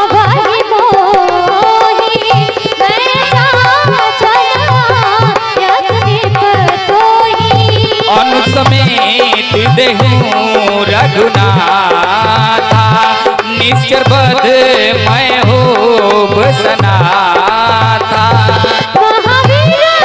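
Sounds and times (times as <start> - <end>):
dholak drum beats: 0.0 - 20.0.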